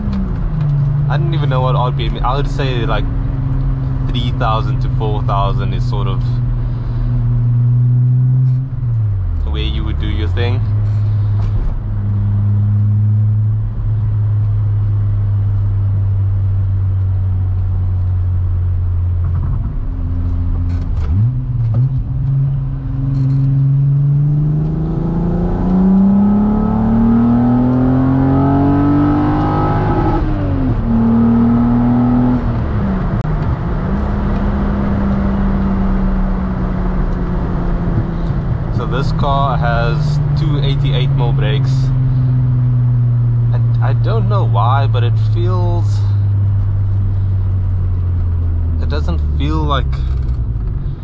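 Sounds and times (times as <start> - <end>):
car engine revving while driving: 0.0 - 51.0.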